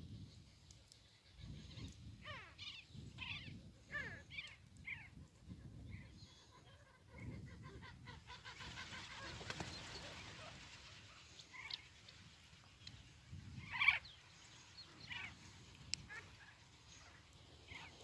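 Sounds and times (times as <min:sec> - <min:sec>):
birds calling in flight: 0:01.2 - 0:18.0.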